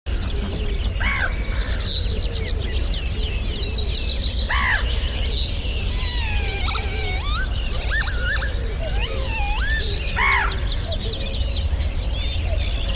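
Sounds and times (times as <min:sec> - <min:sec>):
lower arching bird calls: 0:00.1 - 0:12.9
small birds chirping: 0:00.1 - 0:12.9.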